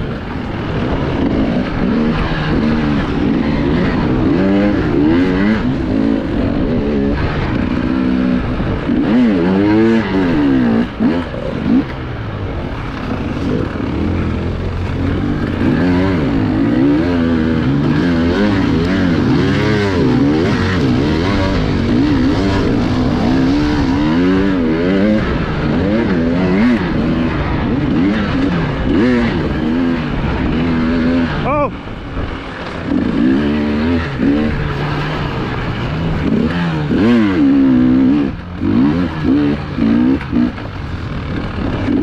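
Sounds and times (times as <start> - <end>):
bike rattling over rough terrain: 0.0 - 42.0
motorcycle engine revving: 0.0 - 42.0.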